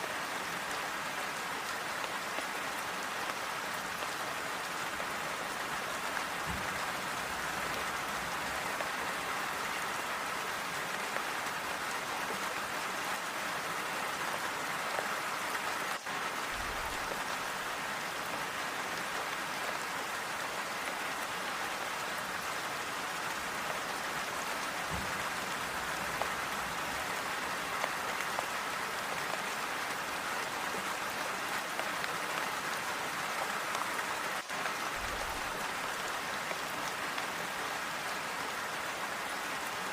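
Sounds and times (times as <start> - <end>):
calm rain falling: 0.0 - 39.9.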